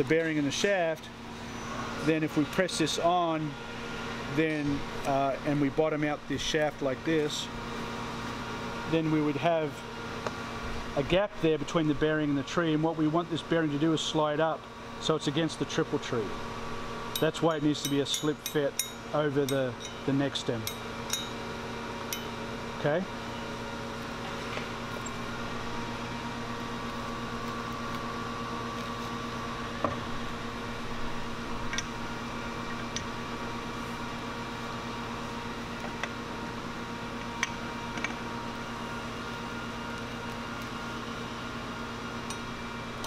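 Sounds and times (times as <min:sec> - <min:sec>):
fan humming: 0:00.0 - 0:43.0.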